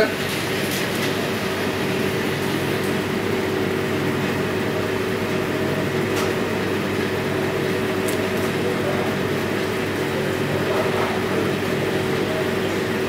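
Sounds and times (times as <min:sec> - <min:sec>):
extractor hood fans humming: 0:00.0 - 0:13.0.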